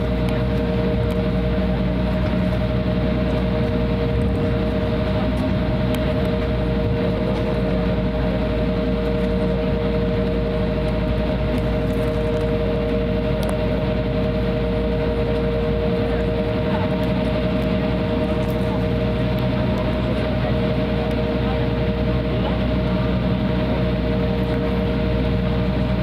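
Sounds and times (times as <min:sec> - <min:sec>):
jet engines idling rumble: 0:00.0 - 0:26.0.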